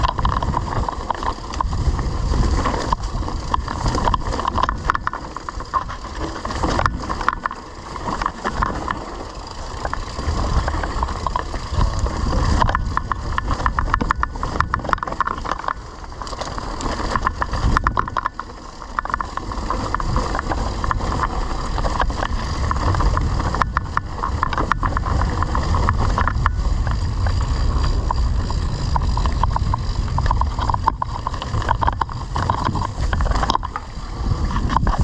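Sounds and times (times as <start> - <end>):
bike rattling and clicking: 0.0 - 35.0
wind on microphone: 0.0 - 35.0.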